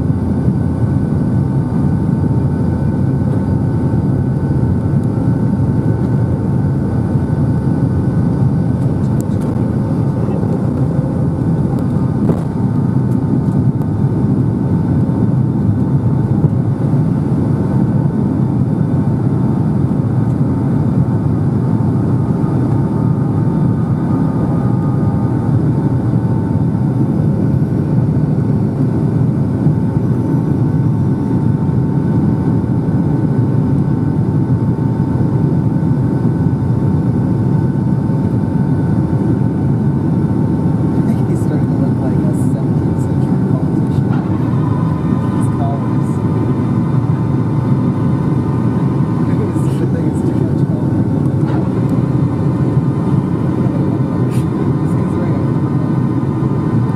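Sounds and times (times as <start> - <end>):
faint engine whine: 0.0 - 56.9
jet engine and airflow rumble: 0.0 - 56.9.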